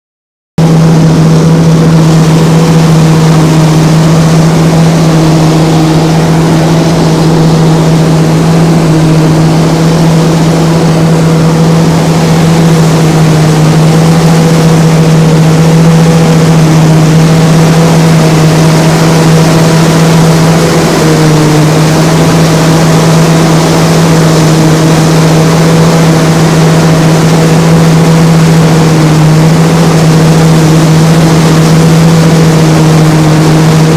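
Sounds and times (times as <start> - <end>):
harvester engine running: 0.6 - 33.9.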